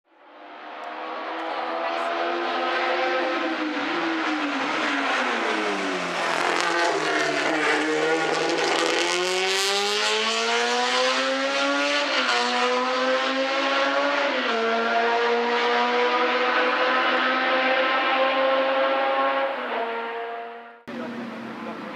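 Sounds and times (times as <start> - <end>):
racing car engine running hard: 0.6 - 21.9.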